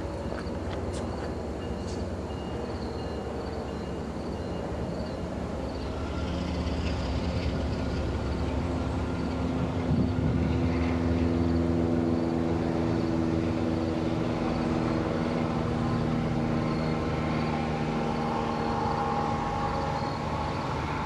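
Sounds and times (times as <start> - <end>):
train engine rumbling: 0.0 - 21.0.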